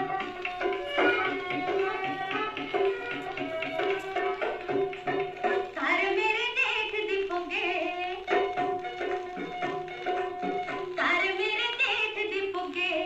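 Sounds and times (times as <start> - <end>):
tabla strokes: 0.0 - 13.0.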